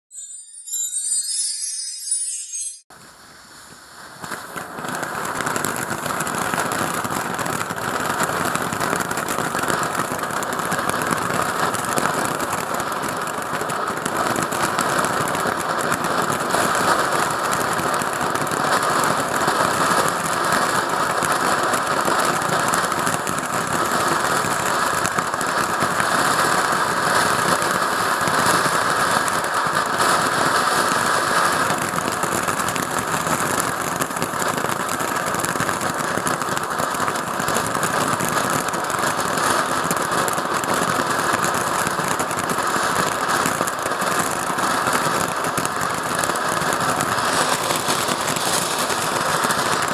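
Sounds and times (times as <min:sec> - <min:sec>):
firework fountain hissing sparks: 0:00.2 - 0:49.9.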